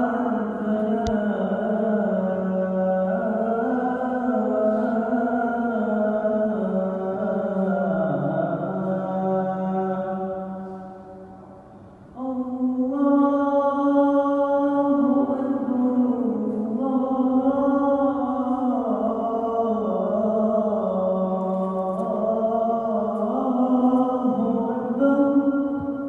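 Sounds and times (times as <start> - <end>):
man chanting call to prayer: 0.0 - 11.2, 12.2 - 26.0.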